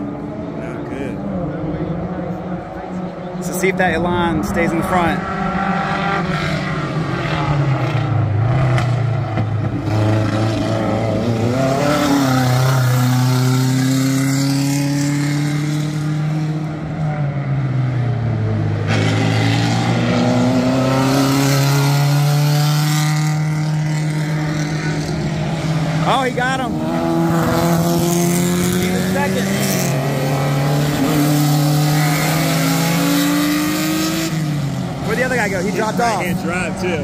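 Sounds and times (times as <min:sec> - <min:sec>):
racing car engines accelerating: 0:00.0 - 0:37.0.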